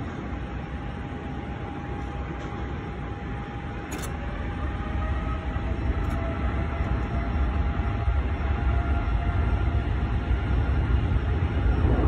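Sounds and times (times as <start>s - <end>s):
faint steady engine whine: 0.0s - 12.0s
jet engines rumbling: 0.0s - 12.0s.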